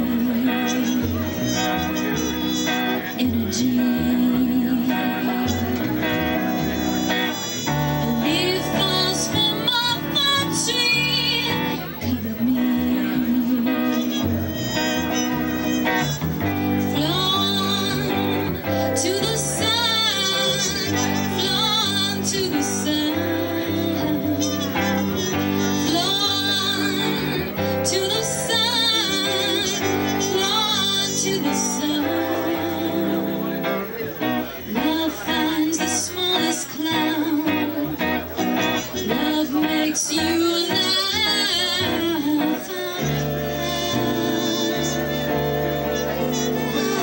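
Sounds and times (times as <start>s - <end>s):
electric guitar: 0.0s - 47.0s
person singing: 0.0s - 47.0s
upright bass: 0.0s - 47.0s.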